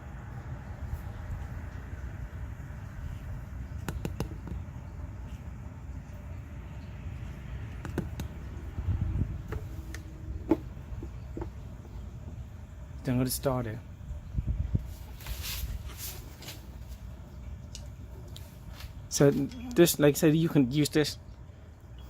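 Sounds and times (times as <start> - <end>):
steady low rumble: 0.0 - 19.7.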